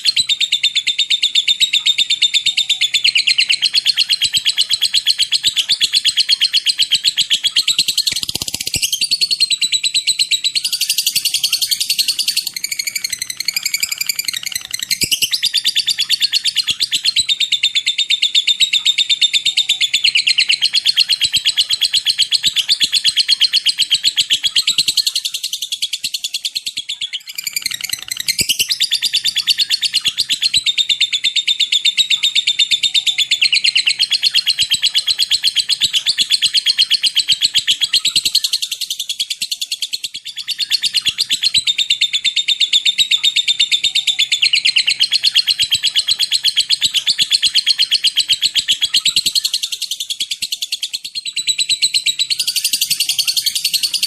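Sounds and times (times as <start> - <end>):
lovebird fast ticking chatter: 1.4 - 54.0.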